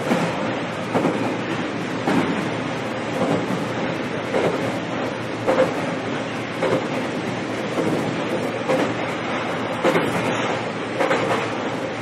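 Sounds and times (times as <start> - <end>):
train running on board: 0.0 - 12.0.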